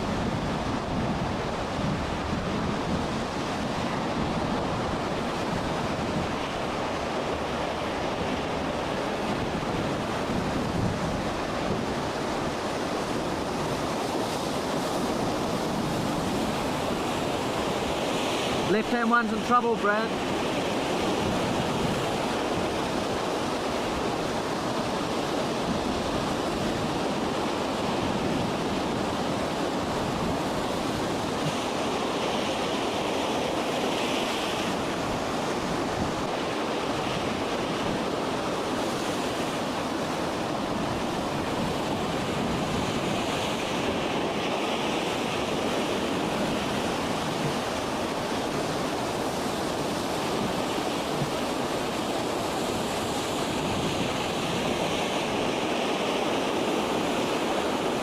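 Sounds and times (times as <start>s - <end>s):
wind buffeting microphone: 0.0s - 18.8s, 20.0s - 58.0s
heavy sea: 0.0s - 58.0s
storm wind: 0.0s - 58.0s.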